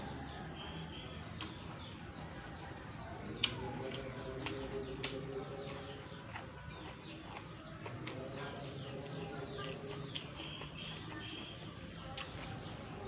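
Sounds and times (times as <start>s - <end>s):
chewing and crunching: 1.3s - 13.0s.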